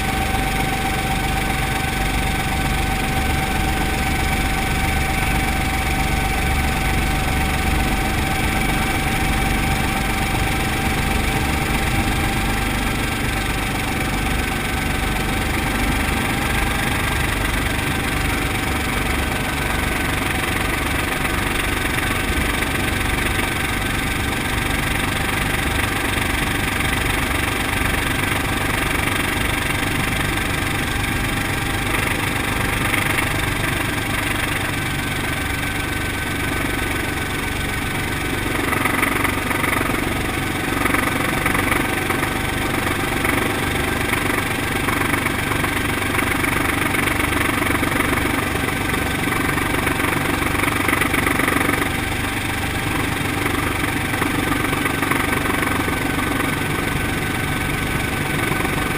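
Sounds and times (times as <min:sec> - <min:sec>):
helicopter engine and rotor: 0:00.0 - 0:58.9.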